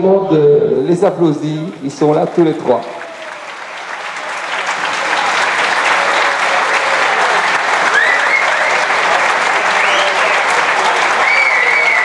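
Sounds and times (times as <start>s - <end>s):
audience applauding: 1.7s - 12.0s.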